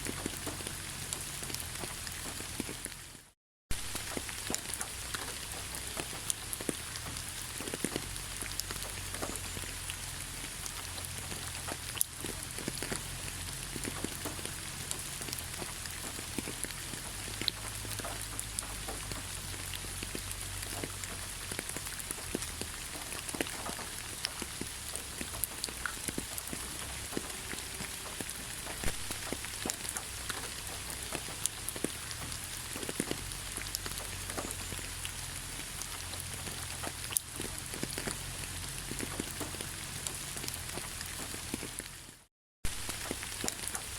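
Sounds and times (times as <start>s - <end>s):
raindrops ticking on surface: 0.0s - 43.9s
steady rain falling: 0.0s - 43.9s.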